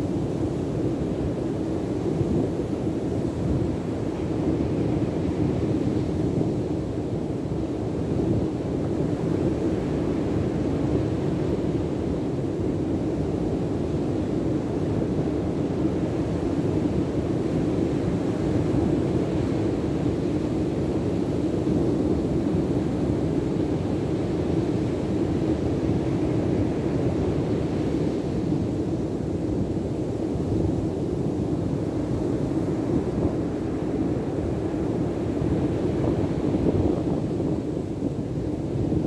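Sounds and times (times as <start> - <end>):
wind: 0.0 - 39.0.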